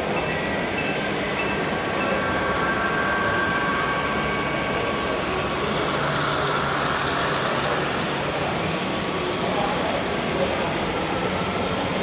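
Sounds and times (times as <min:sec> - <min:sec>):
faint steady tones: 0:00.0 - 0:12.0.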